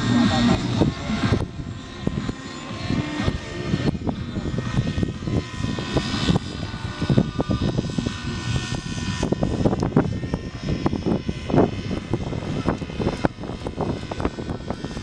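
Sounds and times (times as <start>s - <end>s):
model helicopter rotor and motor: 0.0s - 15.0s
thin whine: 0.0s - 15.0s.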